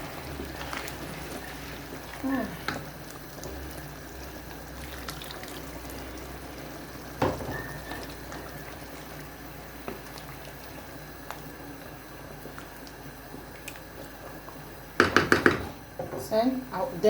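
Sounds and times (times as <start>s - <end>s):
stew bubbling in a pot: 0.0s - 16.1s.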